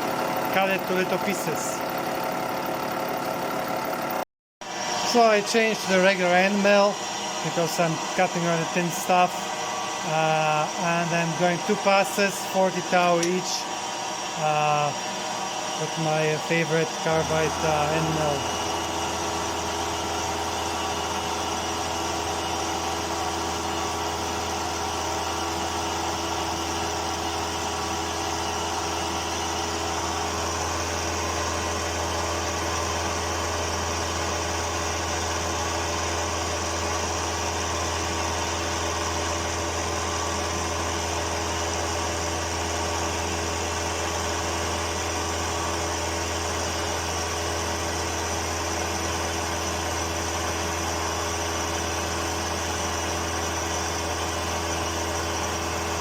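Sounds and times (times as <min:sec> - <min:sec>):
milling machine hum: 0:00.0 - 0:56.0.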